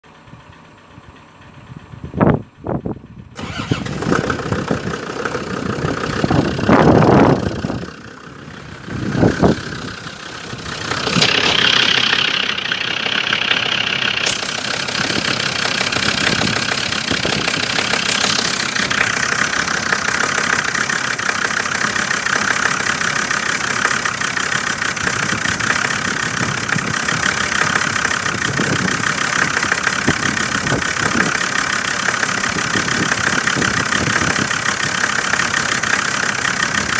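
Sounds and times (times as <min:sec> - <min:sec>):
diesel engine cranking and idling: 0:00.0 - 0:36.9.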